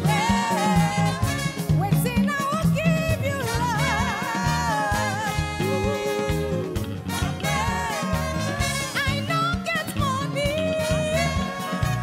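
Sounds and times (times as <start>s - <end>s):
gospel band playing: 0.0s - 12.0s
women singing: 0.0s - 12.0s.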